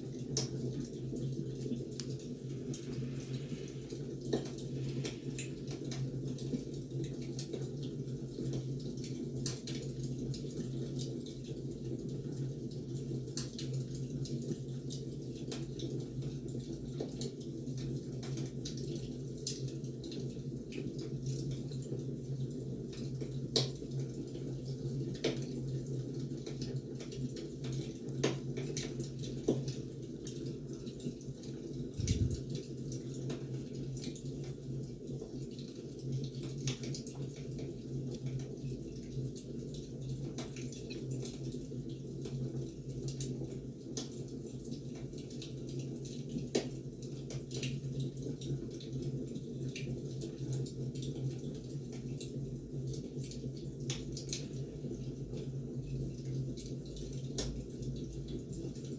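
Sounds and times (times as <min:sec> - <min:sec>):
wood fire crackling: 0:00.1 - 0:22.1, 0:22.9 - 0:58.0.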